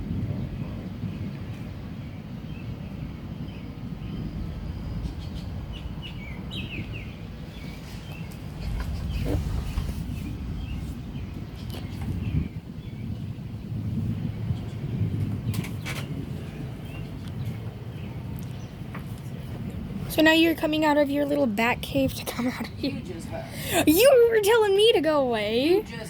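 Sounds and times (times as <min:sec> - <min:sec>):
low outdoor rumble: 0:00.0 - 0:26.0
small birds chirping: 0:00.4 - 0:26.0.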